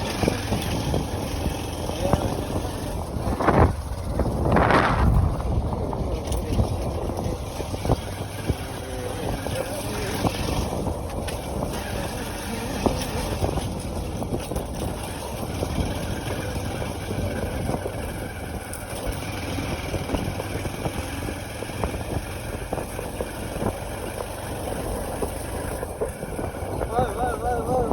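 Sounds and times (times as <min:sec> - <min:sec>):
motorcycle engine: 0:00.0 - 0:27.9
wind buffeting microphone: 0:00.0 - 0:27.9.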